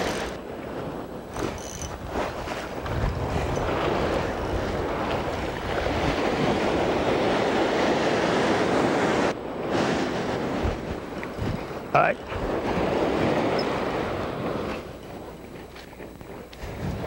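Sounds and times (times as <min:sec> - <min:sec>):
surf washing over sand: 0:00.0 - 0:17.0
wind buffeting microphone: 0:00.0 - 0:17.0.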